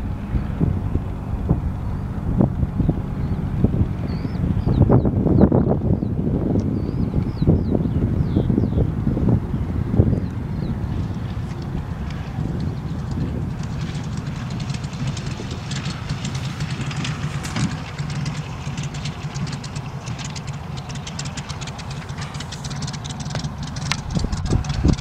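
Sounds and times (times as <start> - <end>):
aircraft engine running: 0.0 - 25.0.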